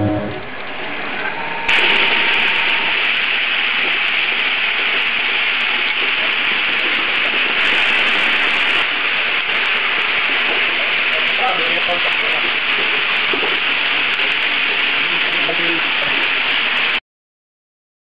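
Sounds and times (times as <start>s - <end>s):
machine hissing rush: 0.0s - 17.0s.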